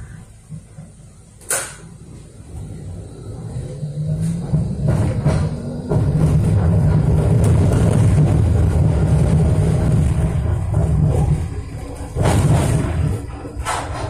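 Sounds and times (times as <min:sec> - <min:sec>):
tram wheels rumbling: 0:00.0 - 0:14.0.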